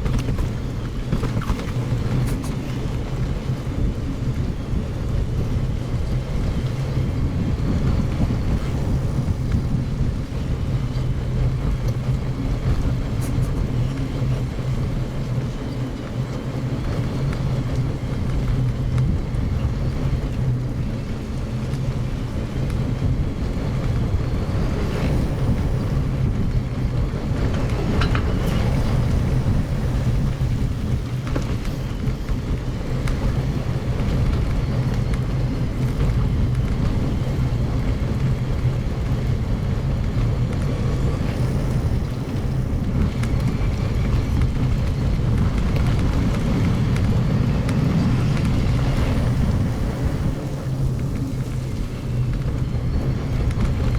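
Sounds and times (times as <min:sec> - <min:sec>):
wind rumble on microphone: 0:00.0 - 0:53.9.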